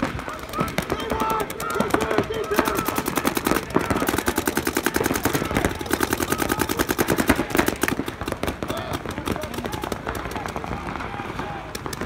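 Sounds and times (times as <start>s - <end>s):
paintball markers firing rapidly: 0.0s - 12.0s.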